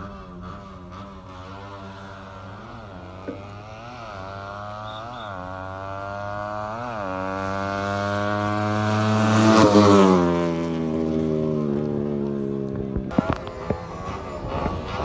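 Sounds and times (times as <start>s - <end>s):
racing engine passing by: 0.0s - 15.0s.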